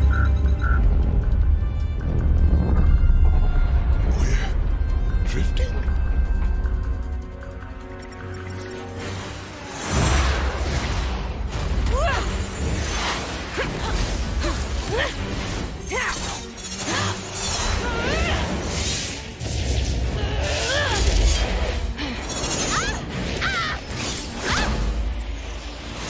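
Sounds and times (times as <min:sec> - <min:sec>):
action soundtrack music: 0:00.0 - 0:26.0.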